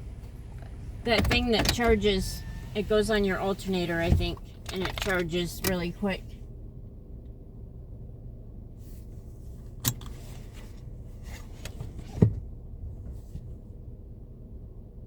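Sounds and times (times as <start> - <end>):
minivan engine rumble: 0.0 - 15.0.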